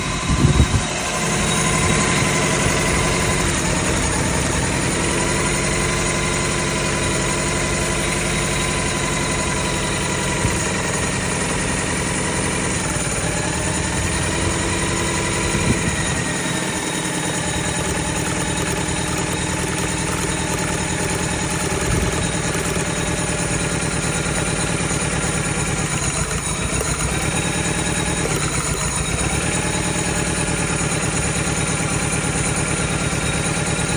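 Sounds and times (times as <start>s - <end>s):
misfiring car engine idling: 0.0s - 33.9s
engine knocks: 0.1s - 33.9s.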